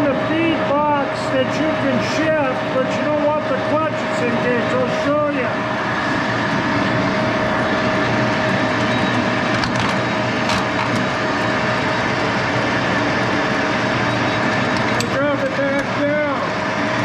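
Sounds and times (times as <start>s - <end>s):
lathe humming and whining: 0.0s - 17.0s.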